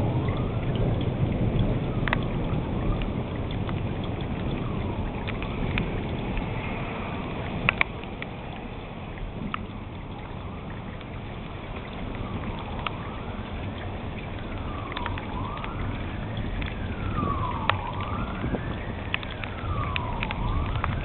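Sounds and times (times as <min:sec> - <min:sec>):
siren wailing: 0:00.0 - 0:07.4, 0:10.2 - 0:21.0
steady low rumble: 0:00.0 - 0:21.0.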